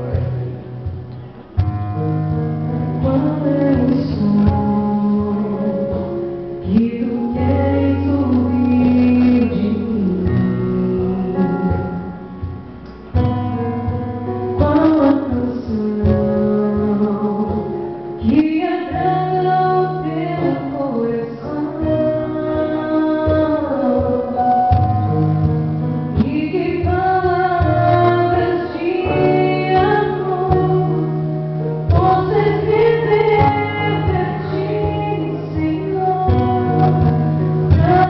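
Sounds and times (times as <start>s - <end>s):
instrumental accompaniment: 0.0s - 38.0s
woman singing gospel: 3.0s - 12.2s, 14.6s - 24.9s, 26.1s - 38.0s.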